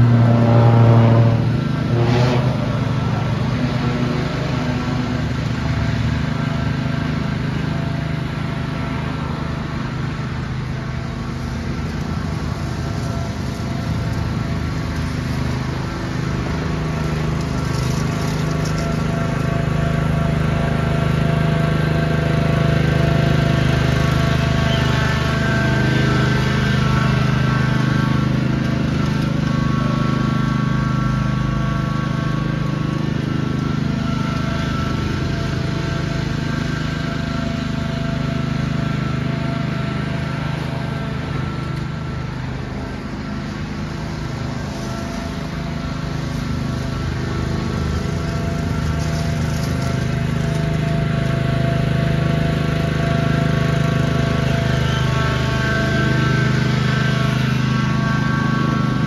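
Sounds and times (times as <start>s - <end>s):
riding lawn tractor engine running: 0.0s - 59.0s.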